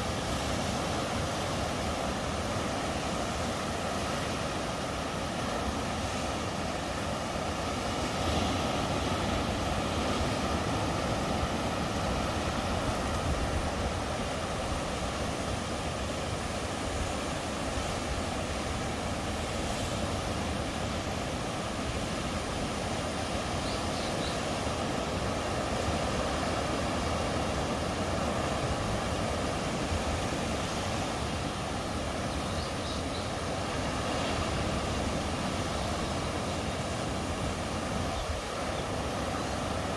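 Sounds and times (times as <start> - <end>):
sea surf washing on shore: 0.0 - 39.9.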